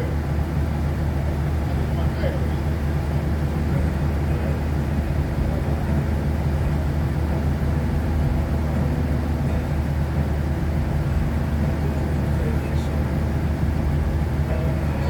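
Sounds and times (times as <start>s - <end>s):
engine low rumble: 0.0s - 15.0s.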